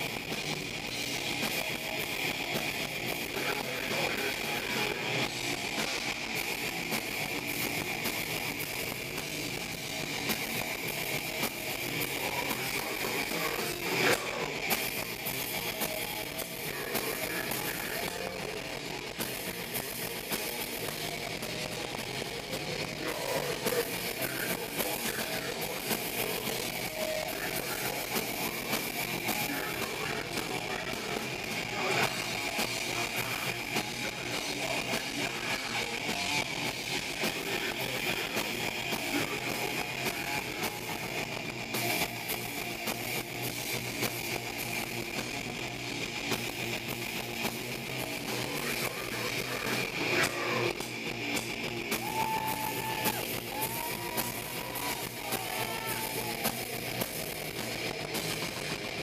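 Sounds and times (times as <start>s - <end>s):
distorted electric guitars: 0.0s - 59.0s
drum kit: 0.0s - 59.0s.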